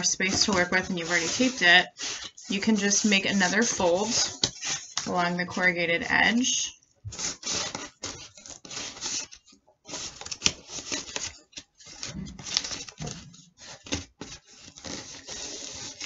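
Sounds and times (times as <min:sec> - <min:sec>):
cardboard being folded and creased: 0:00.0 - 0:05.6, 0:07.1 - 0:16.0.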